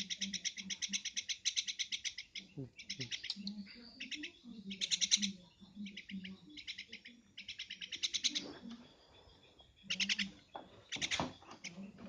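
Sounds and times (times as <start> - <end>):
myna high chattering calls: 0.0 - 12.0.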